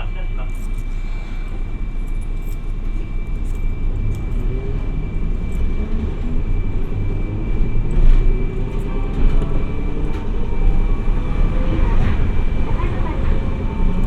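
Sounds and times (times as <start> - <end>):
tram wheels rumbling: 0.0 - 14.0.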